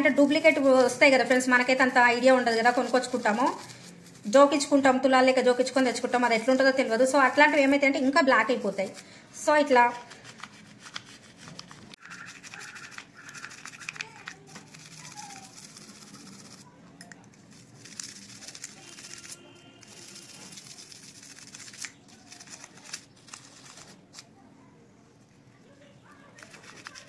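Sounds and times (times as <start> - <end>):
brush scrubbing metal: 0.5 - 16.6, 17.5 - 22.7, 26.4 - 27.0.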